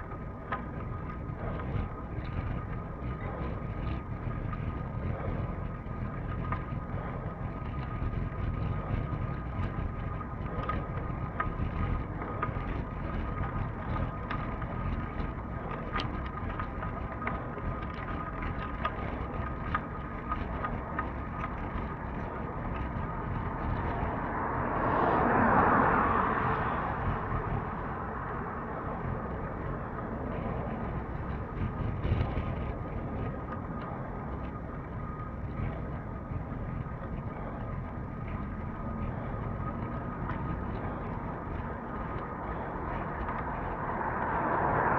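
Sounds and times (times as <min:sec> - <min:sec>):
faint steady tones: 0:00.0 - 0:44.9
rolling rumble: 0:00.0 - 0:44.9
wind noise: 0:00.0 - 0:44.9.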